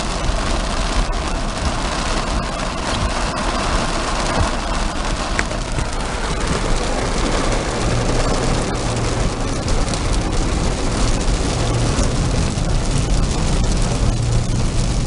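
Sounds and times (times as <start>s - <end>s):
car road and engine noise: 0.0s - 15.0s
rain pattering on car: 0.0s - 15.0s.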